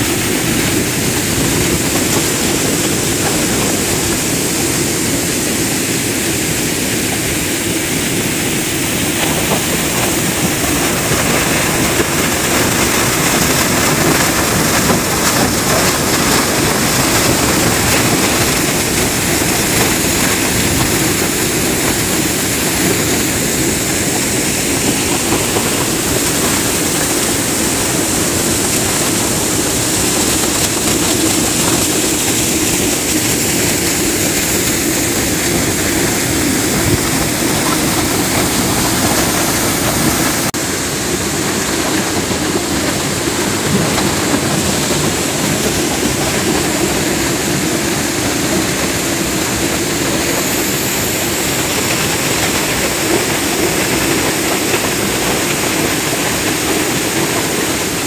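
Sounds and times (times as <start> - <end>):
waterfall crashing: 0.0 - 58.0.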